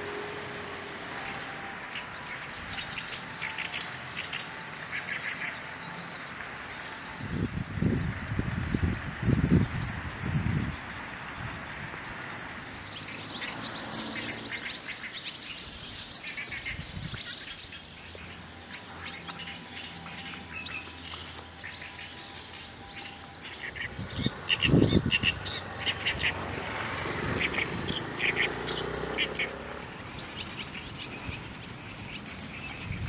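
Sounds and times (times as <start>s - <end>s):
swallows chirping and twittering: 0.0s - 33.0s.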